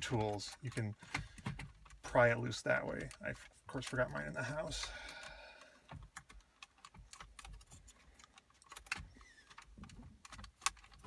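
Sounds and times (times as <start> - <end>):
clicks and rattles of plastic trim: 0.0 - 11.0.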